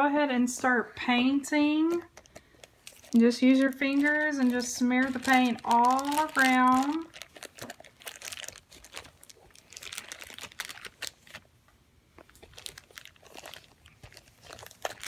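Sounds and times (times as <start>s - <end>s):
plastic bag crinkling: 1.8s - 11.5s, 12.2s - 15.0s.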